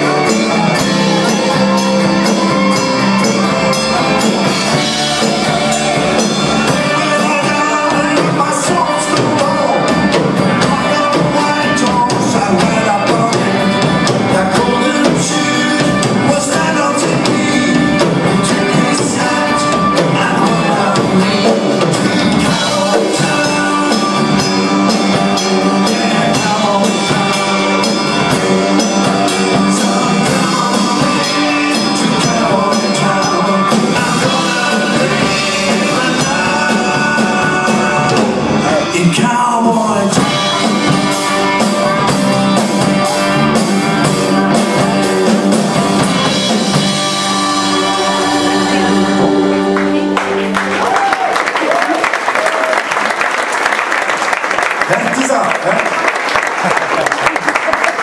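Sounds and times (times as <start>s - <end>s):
acoustic guitar: 0.0s - 50.8s
lead vocal singing: 0.0s - 52.8s
electric guitar: 0.0s - 53.7s
bass guitar: 0.0s - 55.4s
drum kit: 0.0s - 58.0s.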